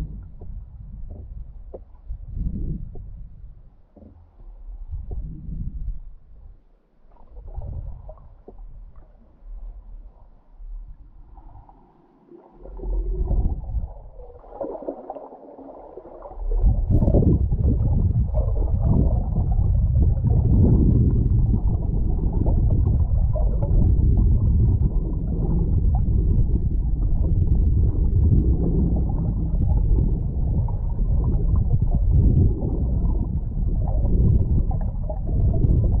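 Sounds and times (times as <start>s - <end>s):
muffled water rushing and gurgling: 0.0s - 36.0s.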